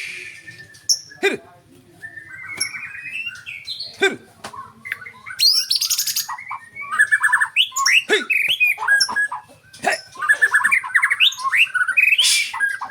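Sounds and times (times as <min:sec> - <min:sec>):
bird singing varied song: 0:00.0 - 0:12.9.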